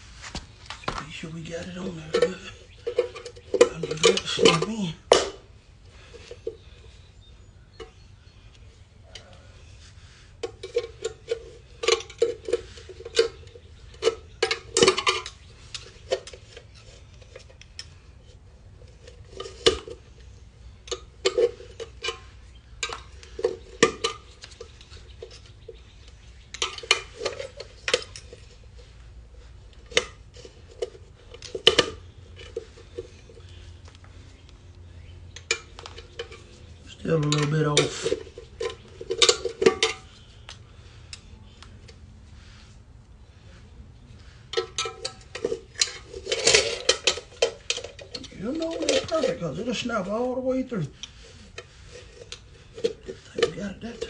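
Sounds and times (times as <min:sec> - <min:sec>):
wheel cap clicking and clinking: 0:00.7 - 0:07.0, 0:10.4 - 0:34.6, 0:35.2 - 0:42.0, 0:44.5 - 0:54.0.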